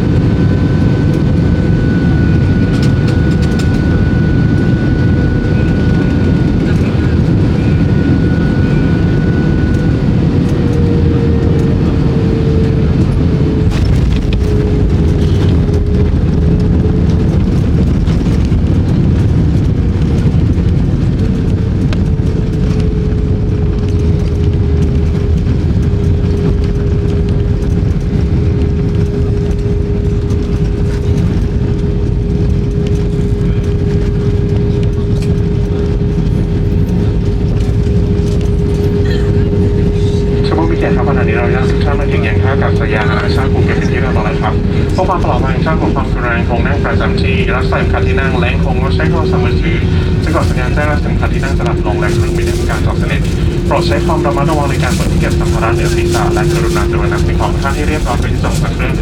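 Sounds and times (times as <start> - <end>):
aircraft engines rumbling: 0.0 - 59.0
jet engine whine: 0.0 - 59.0.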